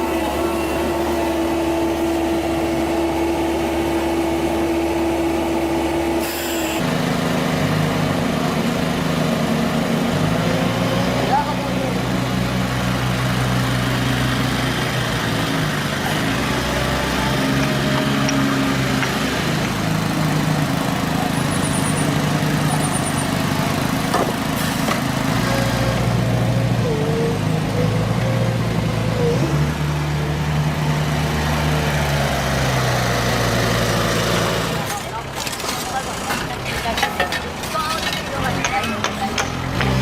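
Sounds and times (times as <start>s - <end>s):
construction machinery diesel engines: 0.0s - 40.0s.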